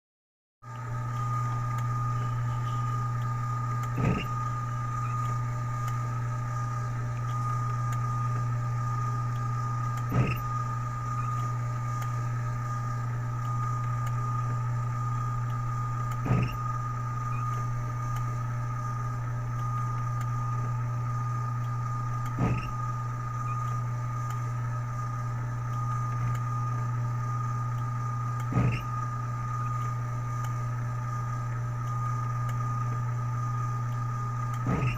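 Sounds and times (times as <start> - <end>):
machine motor humming: 0.7 - 34.9.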